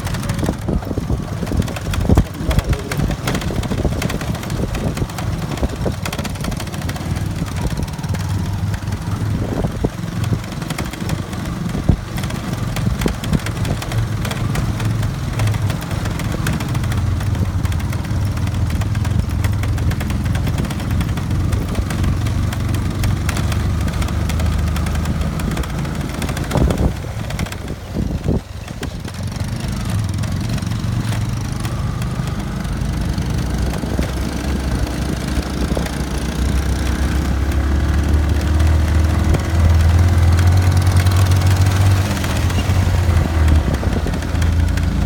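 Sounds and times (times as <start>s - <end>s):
motorbike engine running: 0.0s - 45.0s.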